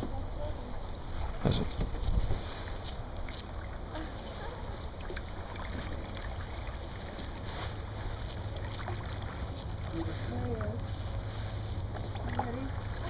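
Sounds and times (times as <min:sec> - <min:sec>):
wind rumbling on microphone: 0:00.0 - 0:13.0
small water splashes: 0:00.8 - 0:13.0.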